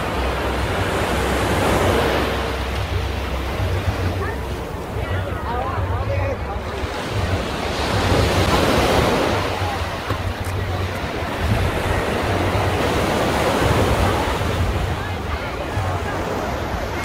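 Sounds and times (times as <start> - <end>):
waves washing onto beach: 0.0 - 17.0
wind buffeting microphone: 0.0 - 17.0.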